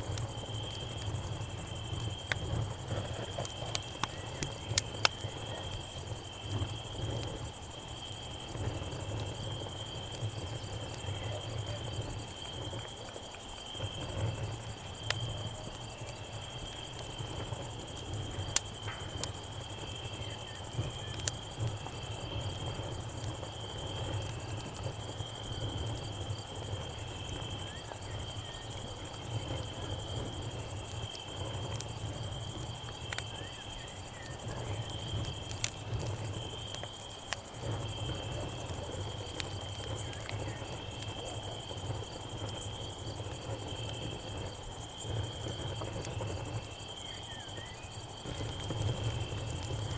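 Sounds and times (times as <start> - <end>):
campfire crackles: 0.0 - 49.9
crickets and cicadas chirping: 0.0 - 49.9.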